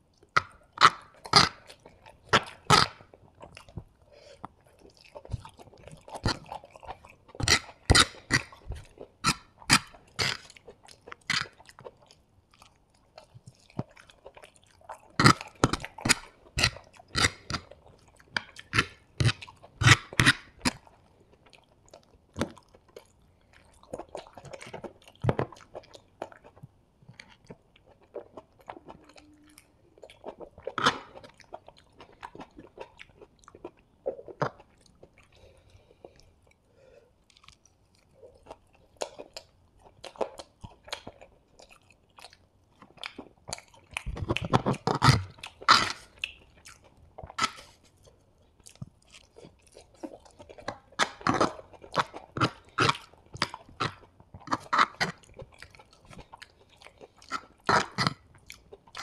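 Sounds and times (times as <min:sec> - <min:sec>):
close chewing with crunches: 0:00.0 - 0:59.0.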